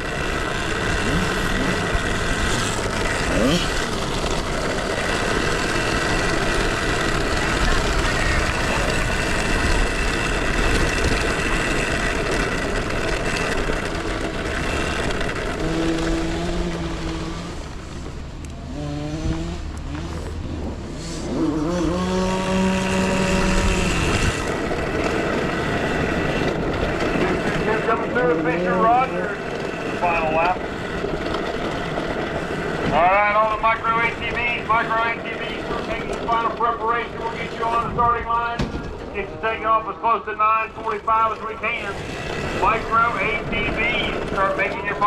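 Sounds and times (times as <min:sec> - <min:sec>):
engine revving up: 0:00.0 - 0:38.5
small off-road engines running: 0:00.0 - 0:45.0
steady noisy rush: 0:00.0 - 0:45.0.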